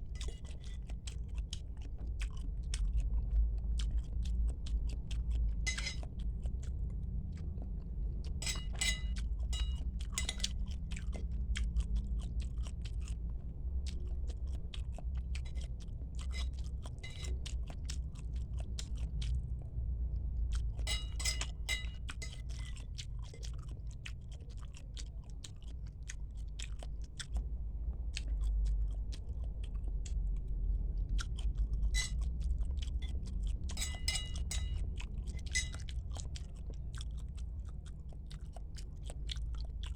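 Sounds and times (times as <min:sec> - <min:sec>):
chewing and biting food: 0:00.0 - 0:08.4, 0:09.0 - 0:20.8, 0:21.5 - 0:33.8, 0:34.4 - 0:39.9.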